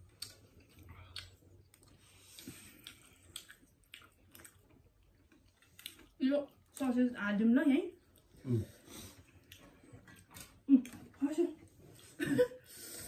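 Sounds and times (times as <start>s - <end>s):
faint chewing of noodles: 0.0s - 6.8s, 8.0s - 13.0s.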